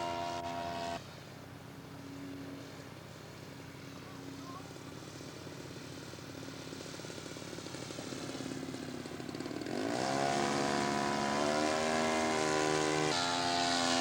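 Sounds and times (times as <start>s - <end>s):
model airplane engine running: 0.0s - 14.0s.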